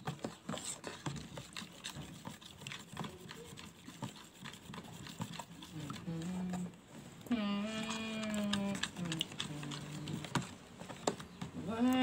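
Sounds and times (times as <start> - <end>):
metal spoon stirring in plastic container: 0.0 - 6.8, 7.6 - 11.1.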